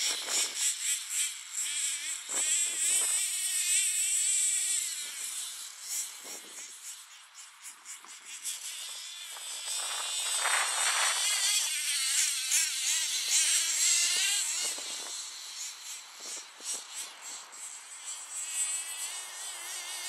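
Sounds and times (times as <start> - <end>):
rc car engine buzzing: 0.0 - 20.0.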